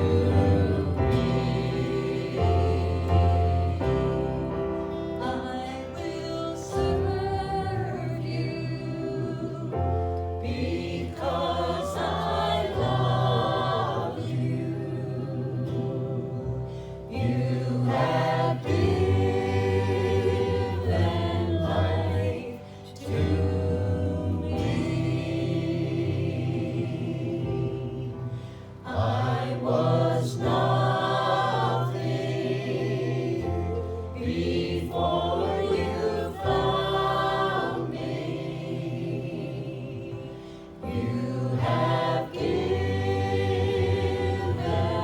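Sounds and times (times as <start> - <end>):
voices singing a hymn: 0.0 - 45.0.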